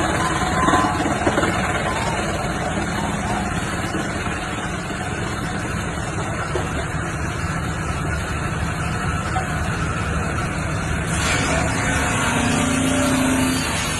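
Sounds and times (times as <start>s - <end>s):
wood chipping machine running: 0.0s - 13.9s.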